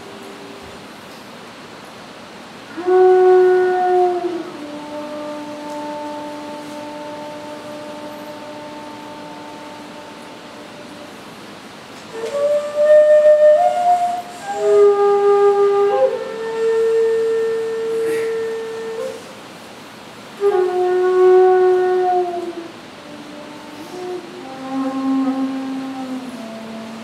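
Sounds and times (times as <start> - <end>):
bamboo flute melody: 0.0 - 1.0, 2.7 - 19.6, 20.3 - 27.0.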